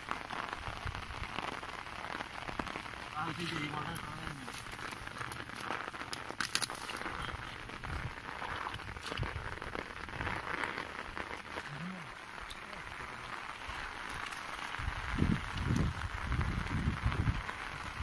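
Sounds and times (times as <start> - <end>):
light rain falling: 0.0 - 18.0
dry stubble crackling: 0.1 - 18.0.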